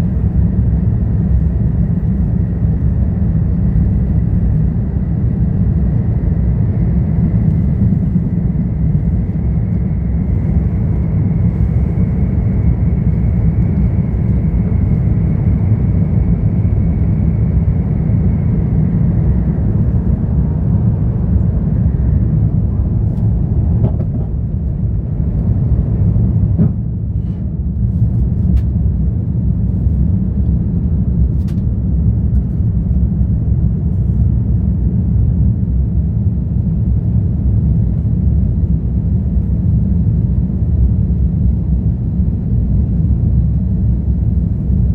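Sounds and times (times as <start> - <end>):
high engine whine: 0.0 - 44.9
jet engines low rumble: 0.0 - 44.9.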